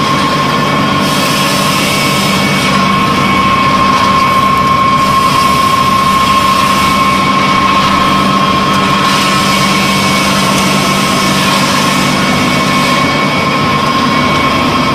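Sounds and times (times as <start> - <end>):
high whine: 0.0 - 14.9
pellet mill mechanical drone: 0.0 - 14.9.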